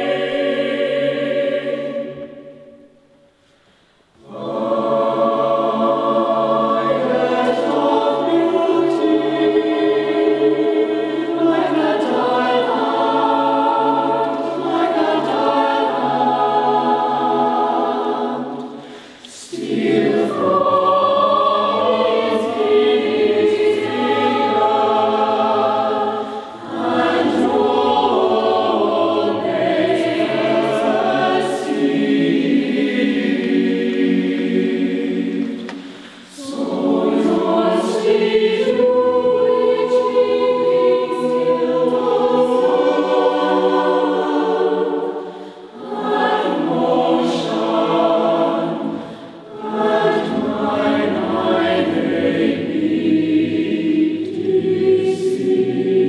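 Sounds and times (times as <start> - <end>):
mixed choir singing in harmony: 0.0 - 3.4, 4.1 - 56.0.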